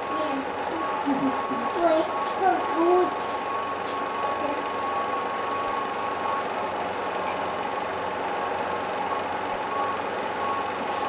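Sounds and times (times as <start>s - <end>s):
film projector whirring: 0.0s - 11.0s.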